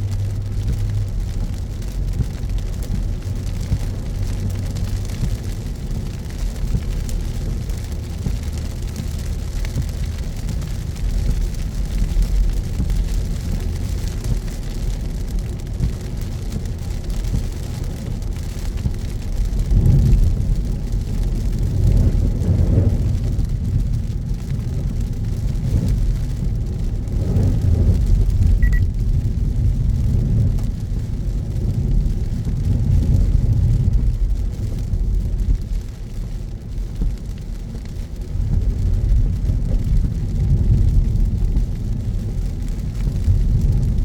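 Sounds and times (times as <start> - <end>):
car road rumble: 0.0 - 44.0
rain and tyre spray hiss: 0.0 - 44.0.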